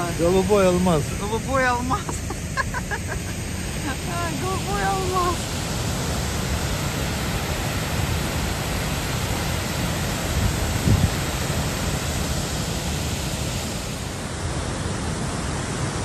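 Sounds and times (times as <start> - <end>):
waterfall rushing roar: 0.0 - 16.0.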